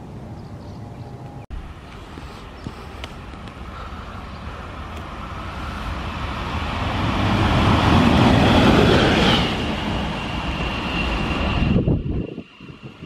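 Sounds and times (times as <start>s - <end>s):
locomotive high whine: 0.0s - 13.0s.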